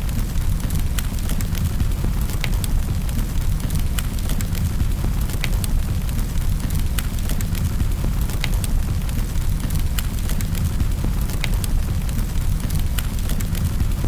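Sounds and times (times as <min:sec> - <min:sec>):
fire snapping and popping: 0:00.0 - 0:14.0
low rumble of flames: 0:00.0 - 0:14.0.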